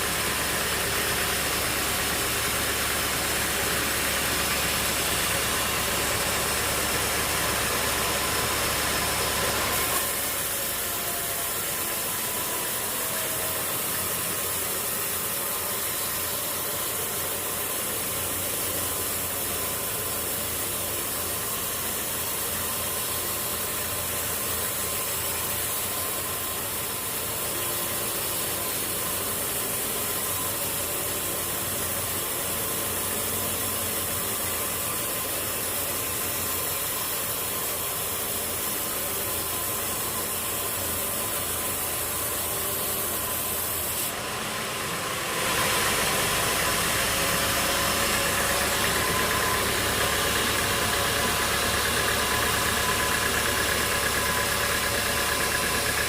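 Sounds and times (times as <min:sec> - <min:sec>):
machine motor running: 0:00.0 - 0:56.0.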